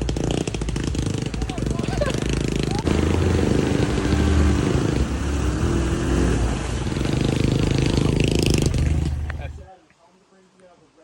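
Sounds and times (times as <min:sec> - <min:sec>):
off-road vehicle engine revving: 0:00.0 - 0:09.7.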